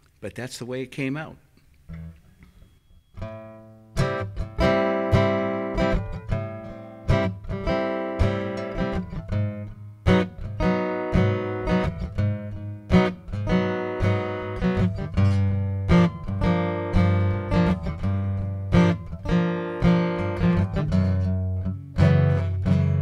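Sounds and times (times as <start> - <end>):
acoustic guitar strumming chords: 1.9 - 23.0.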